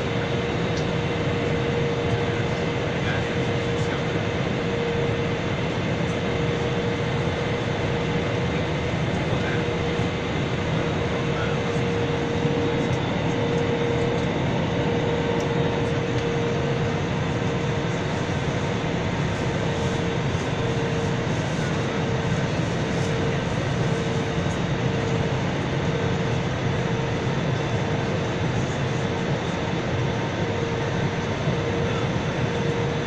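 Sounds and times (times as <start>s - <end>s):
airliner cabin noise: 0.0s - 33.0s
constant hum: 0.0s - 33.0s.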